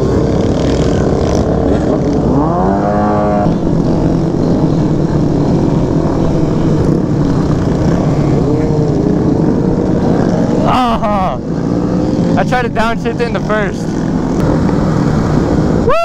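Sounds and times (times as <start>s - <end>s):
motorcycle engine revving: 0.0s - 15.9s
road noise rush: 0.0s - 16.0s.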